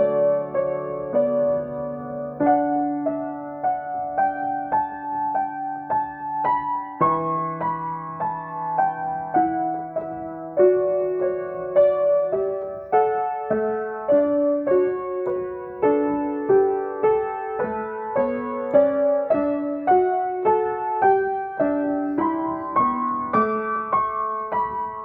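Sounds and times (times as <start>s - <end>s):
slow gentle piano: 0.0s - 25.0s.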